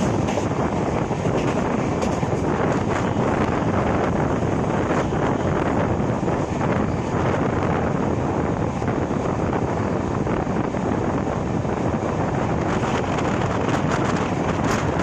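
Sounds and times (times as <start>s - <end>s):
moving train running noise: 0.0s - 15.0s
wind rushing: 0.0s - 15.0s.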